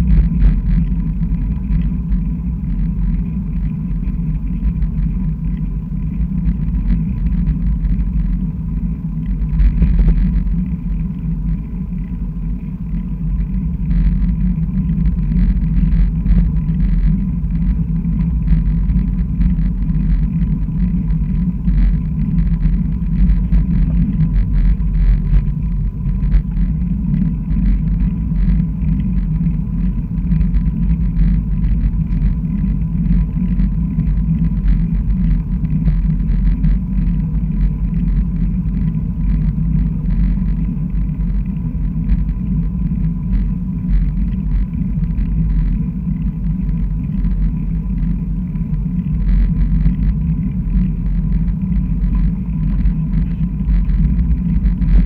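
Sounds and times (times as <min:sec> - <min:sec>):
faint ticks and rattles: 0:00.0 - 0:55.0
wind and road rumble: 0:00.0 - 0:55.0.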